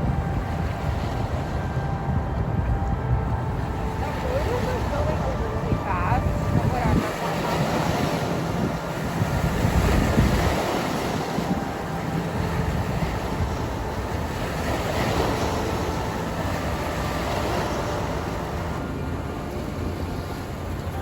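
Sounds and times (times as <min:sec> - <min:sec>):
water washing against shore: 0:00.0 - 0:21.0
wind buffeting microphone: 0:00.0 - 0:21.0.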